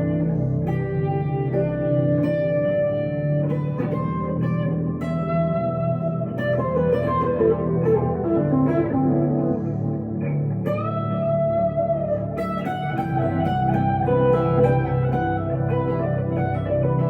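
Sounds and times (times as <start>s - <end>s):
electric guitar slow melody: 0.0s - 17.0s.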